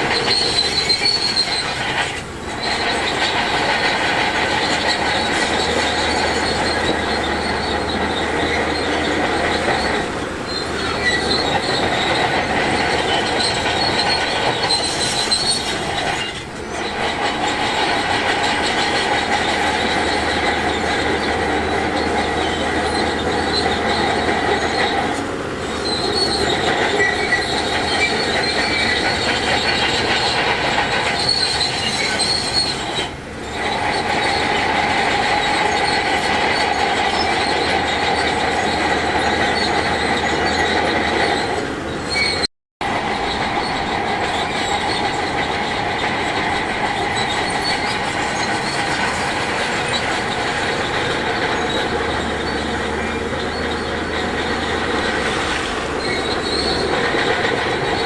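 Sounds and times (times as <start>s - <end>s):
bulldozer engine: 0.0s - 58.0s
bulldozer tracks squealing: 0.0s - 58.0s.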